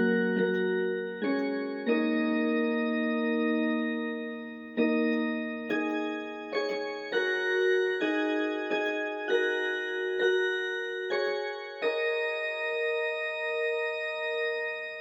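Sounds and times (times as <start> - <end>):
keyboard piano melody: 0.0 - 15.0.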